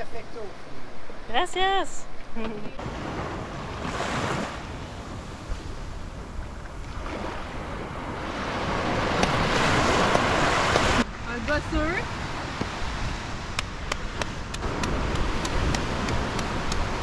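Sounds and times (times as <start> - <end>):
low wind rumble on microphone: 2.2 - 17.0
small waves washing on beach: 2.8 - 17.0.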